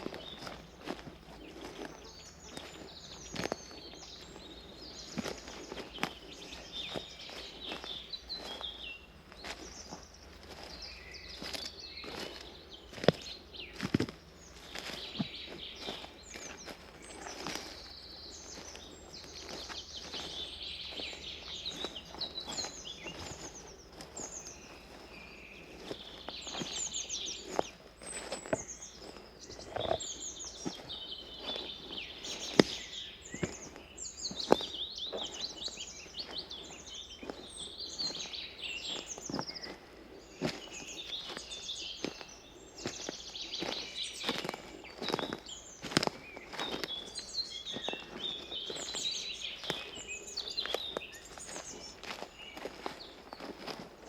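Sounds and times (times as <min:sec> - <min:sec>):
footsteps on forest path: 0:00.0 - 0:54.0
songbirds singing: 0:00.0 - 0:54.0.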